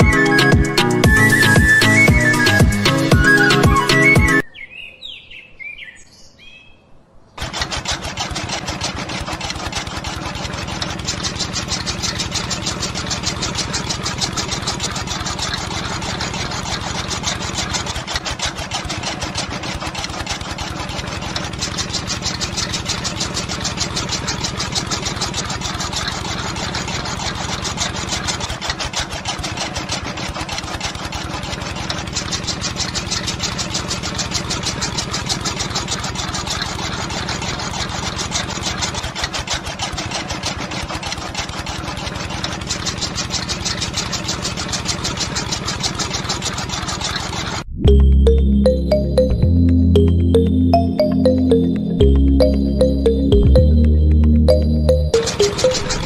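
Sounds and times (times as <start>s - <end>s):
small engine running: 0.0s - 4.4s, 7.4s - 47.7s, 50.0s - 56.0s.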